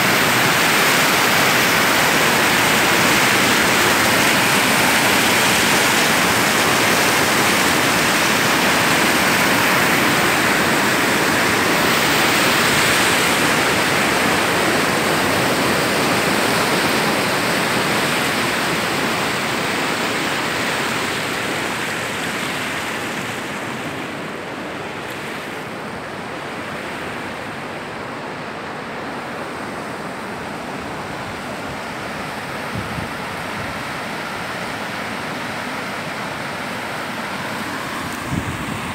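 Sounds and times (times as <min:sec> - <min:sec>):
floodwater roaring: 0:00.0 - 0:38.9.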